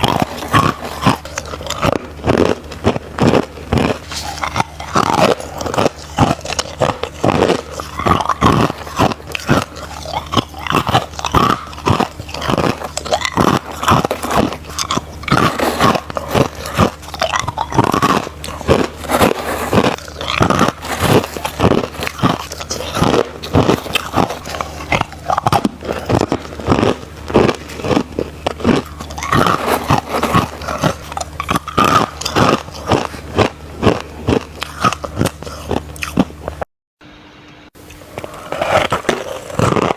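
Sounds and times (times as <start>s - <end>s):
crushed ice crunching while chewed: 0.0s - 36.7s, 37.9s - 39.9s.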